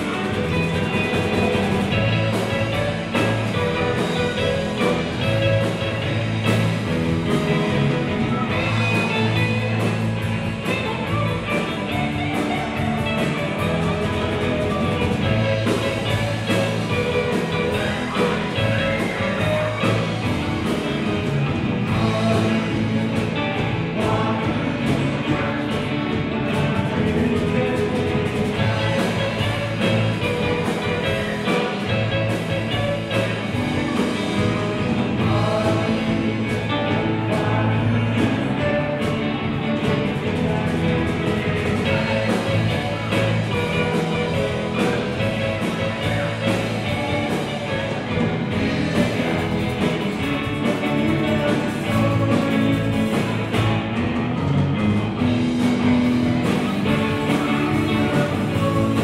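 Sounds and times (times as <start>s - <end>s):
person singing: 0.0s - 54.0s, 55.2s - 59.0s
rock and roll band playing: 0.0s - 59.0s.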